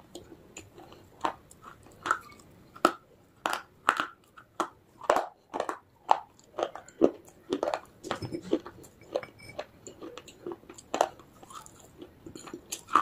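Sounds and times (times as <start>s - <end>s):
chewing crunchy clay: 0.0s - 13.0s.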